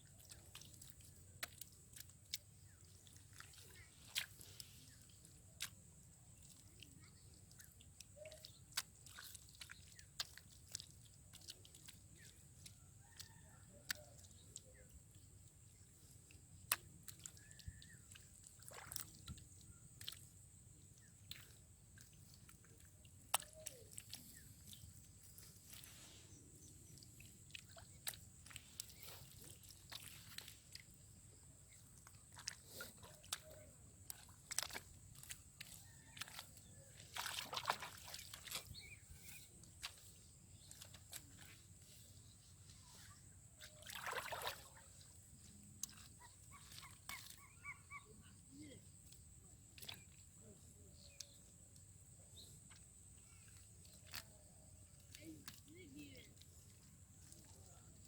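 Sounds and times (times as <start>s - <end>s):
water sloshing: 0.0s - 58.0s.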